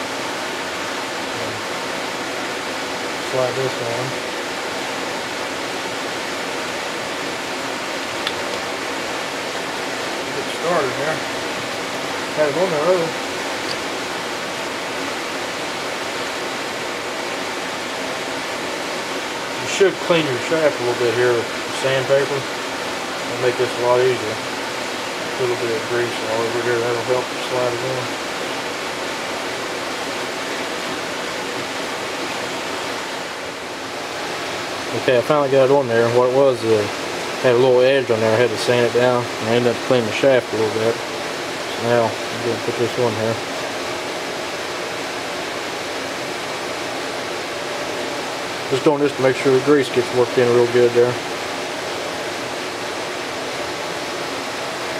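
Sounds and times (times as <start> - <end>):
steady background hiss: 0.0 - 54.9.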